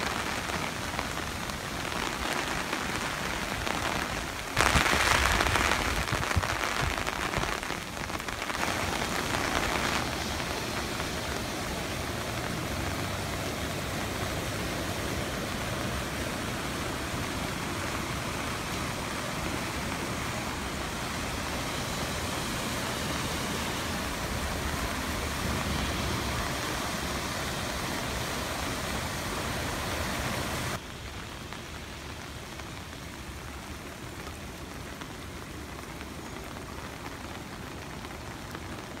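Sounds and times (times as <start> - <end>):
rain falling on grass and water: 0.0 - 39.0.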